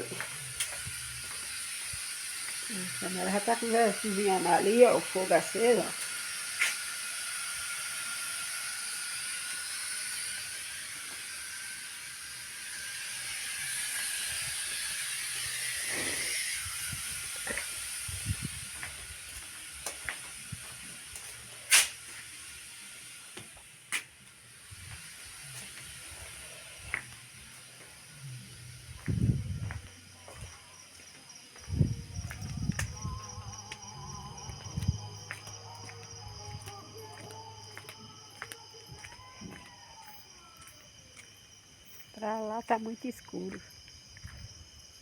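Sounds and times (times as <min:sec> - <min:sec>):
pot boiling with hissing steam: 0:00.0 - 0:45.0.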